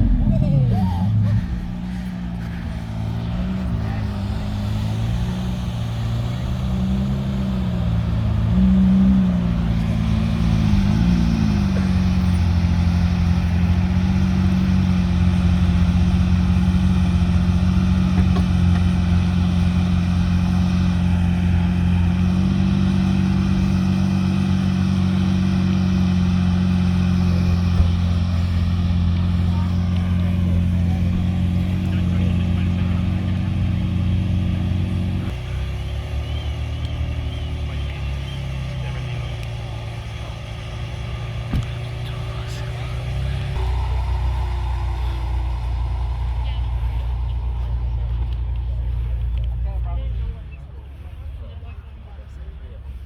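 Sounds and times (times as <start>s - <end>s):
sports car engine revving and idling: 0.0s - 53.0s.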